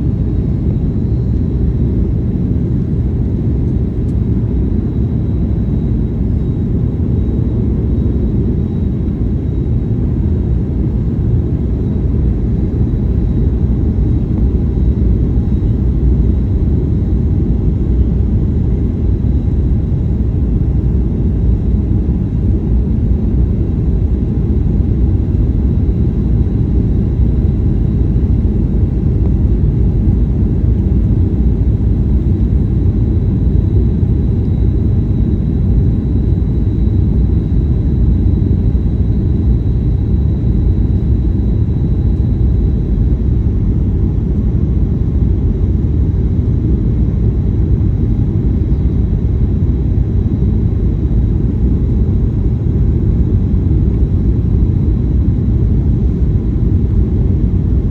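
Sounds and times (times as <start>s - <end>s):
airplane cabin engine and airflow rumble: 0.0s - 57.9s.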